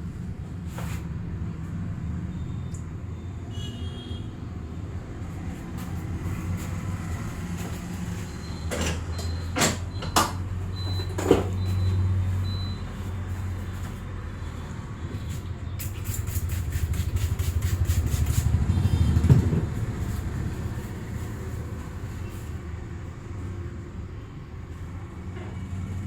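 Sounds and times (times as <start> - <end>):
low traffic rumble: 4.4 - 26.0.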